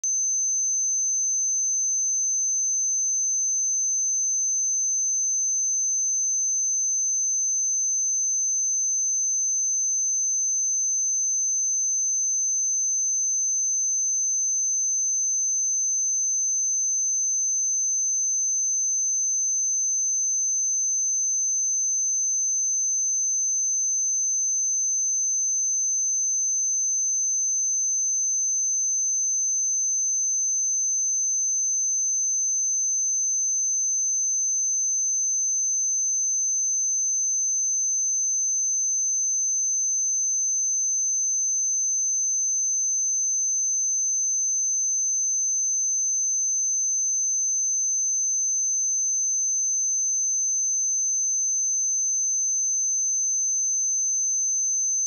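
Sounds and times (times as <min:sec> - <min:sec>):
high sine-wave test tone: 0:00.0 - 0:55.0.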